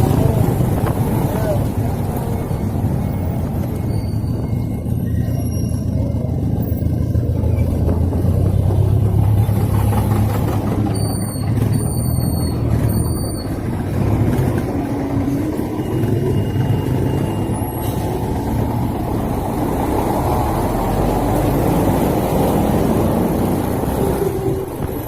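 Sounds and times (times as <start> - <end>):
low engine rumble: 0.0 - 25.0
road and wind noise: 0.0 - 25.0.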